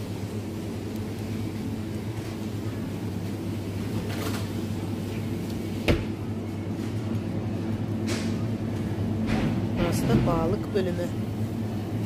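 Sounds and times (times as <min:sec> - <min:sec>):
refrigerated display cases humming: 0:00.0 - 0:12.0.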